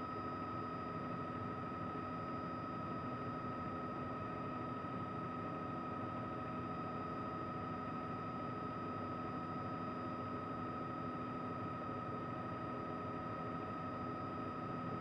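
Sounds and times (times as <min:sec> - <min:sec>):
helicopter drone with high whine: 0:00.0 - 0:15.0.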